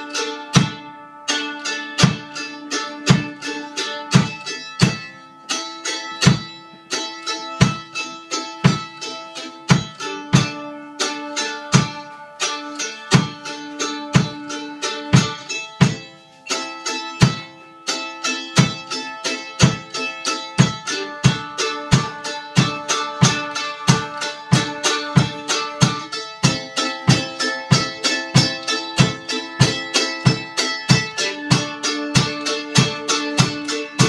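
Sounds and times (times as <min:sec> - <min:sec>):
plucked acoustic strings playing folk: 0:00.0 - 0:34.0.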